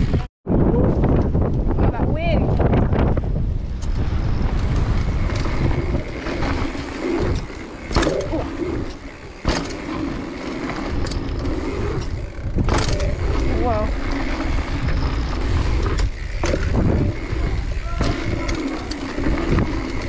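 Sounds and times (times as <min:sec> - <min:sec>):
bike tyre rumble on dirt: 0:00.0 - 0:20.0
wind buffeting microphone: 0:00.0 - 0:20.0.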